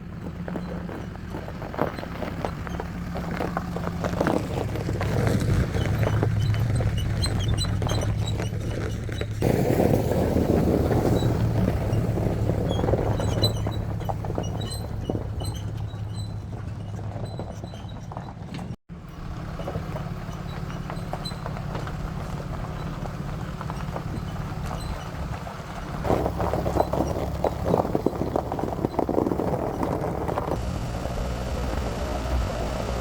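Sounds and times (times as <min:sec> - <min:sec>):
truck engine and road drone: 0:00.0 - 0:33.0.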